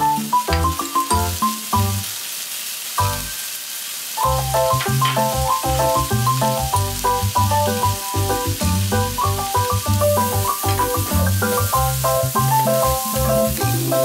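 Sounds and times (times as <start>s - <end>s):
background music of quick notes: 0.0s - 2.1s, 4.2s - 14.0s
vegetables sizzling in a wok: 0.0s - 14.0s.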